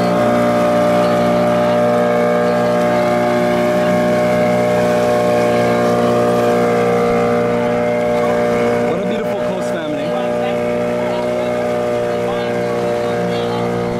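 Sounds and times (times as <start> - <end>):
motorboat engine running: 0.0 - 13.9.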